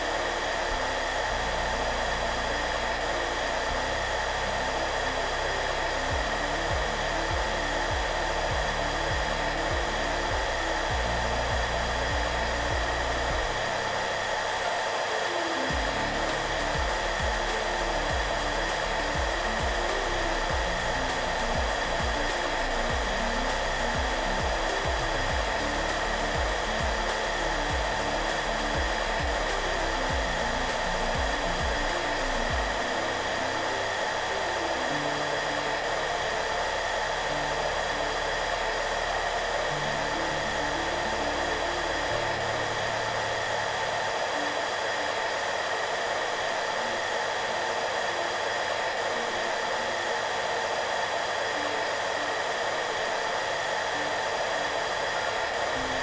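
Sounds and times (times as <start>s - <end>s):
hair dryer running: 0.0s - 56.0s
soft background music: 0.0s - 56.0s.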